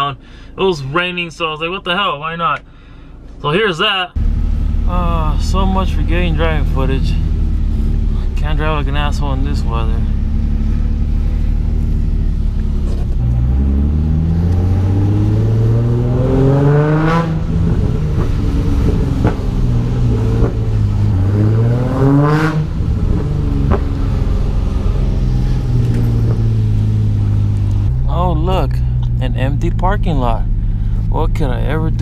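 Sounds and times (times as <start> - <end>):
car engine revving: 4.2 - 32.0.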